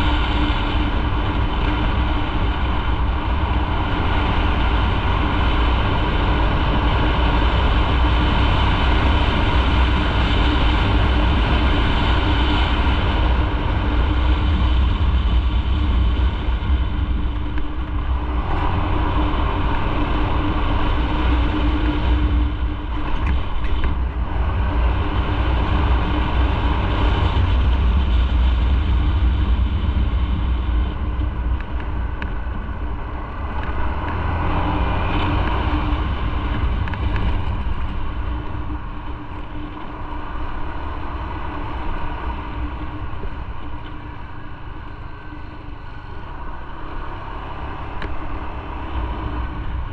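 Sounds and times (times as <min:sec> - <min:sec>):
road noise: 0:00.0 - 0:49.9.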